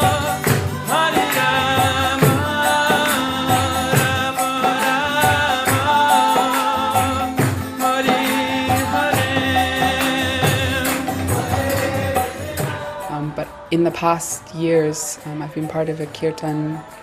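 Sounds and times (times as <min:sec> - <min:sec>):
group chanting: 0:00.0 - 0:17.0
jingling hand percussion: 0:00.0 - 0:17.0.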